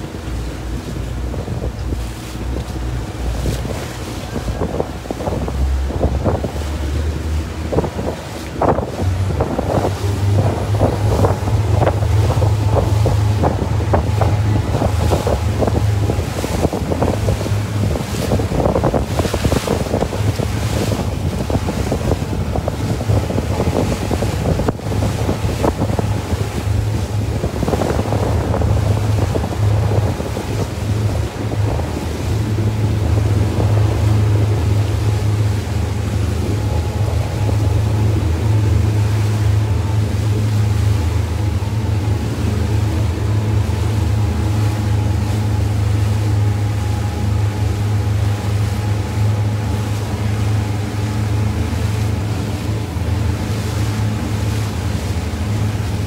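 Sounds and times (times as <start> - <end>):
boat engine humming: 0.0 - 56.0
water rushing past hull: 0.0 - 56.0
wind buffeting microphone: 0.0 - 56.0.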